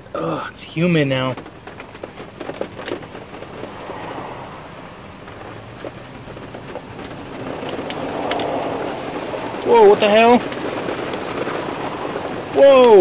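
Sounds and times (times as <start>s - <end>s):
rain on truck cab: 0.0s - 13.0s
raindrops ticking: 0.0s - 13.0s.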